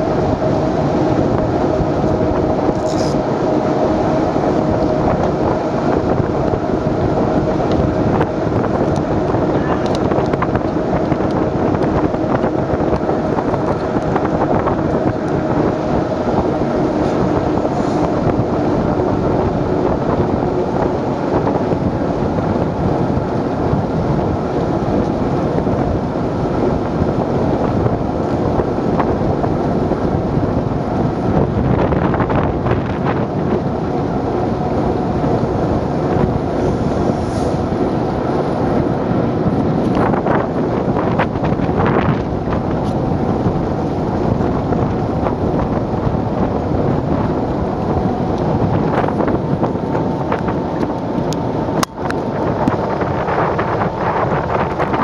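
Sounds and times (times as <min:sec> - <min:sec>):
faint boat engine hum: 0:00.0 - 0:55.0
water washing along boat hull: 0:00.0 - 0:55.0
wind buffeting microphone: 0:00.0 - 0:55.0.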